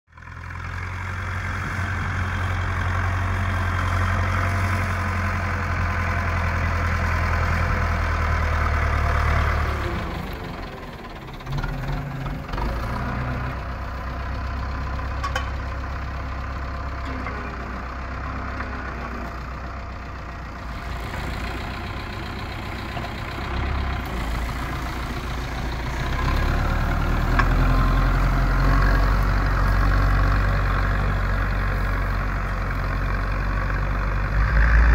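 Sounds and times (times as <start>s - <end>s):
tractor diesel engine running hard: 0.1s - 34.9s.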